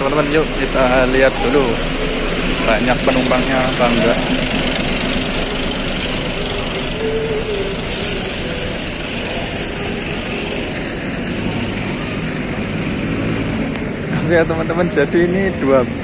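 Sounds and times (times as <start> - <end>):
diesel bus engines idling: 0.0 - 16.0.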